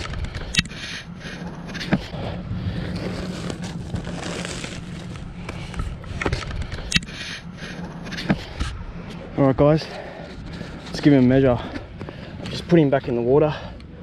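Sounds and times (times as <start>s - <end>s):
outdoor hum: 0.0s - 14.0s
wind rumbling on microphone: 0.0s - 14.0s.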